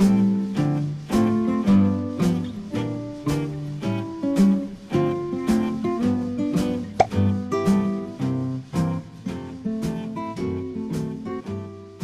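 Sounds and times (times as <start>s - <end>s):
acoustic guitar strumming: 0.0s - 11.8s.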